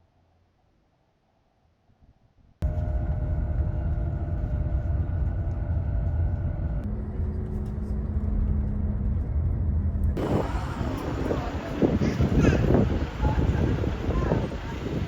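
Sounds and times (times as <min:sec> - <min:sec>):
vehicle low rumble: 0:02.6 - 0:15.0.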